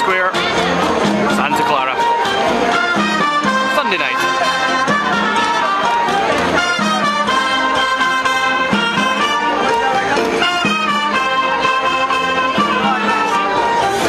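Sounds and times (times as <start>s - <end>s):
orchestra playing latin dance music: 0.0s - 14.0s
brass: 2.1s - 14.0s.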